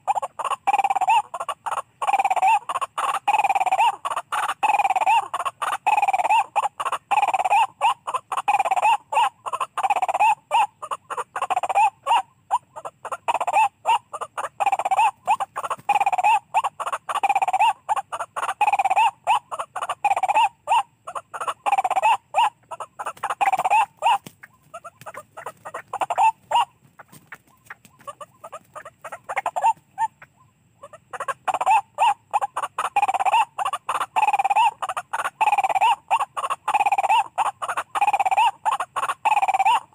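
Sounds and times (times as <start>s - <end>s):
waterhen calling harsh croaks: 0.0s - 39.9s.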